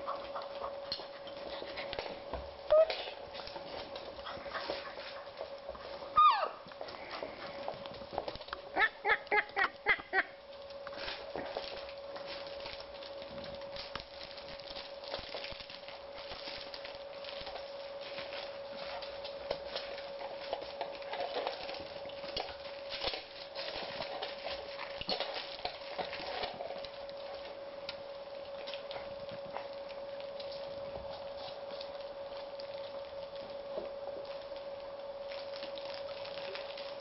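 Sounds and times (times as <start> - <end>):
puppies scuffling and chewing: 0.0 - 37.0
steady background hum: 0.0 - 37.0.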